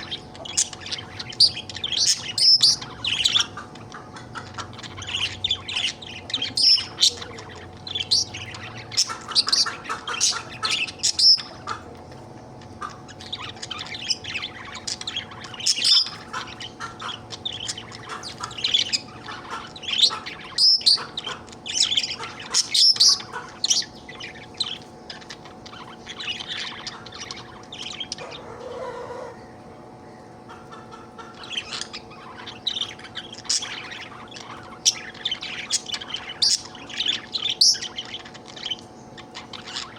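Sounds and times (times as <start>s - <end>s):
budgerigar chirping and chattering: 0.0s - 29.3s, 30.4s - 39.9s.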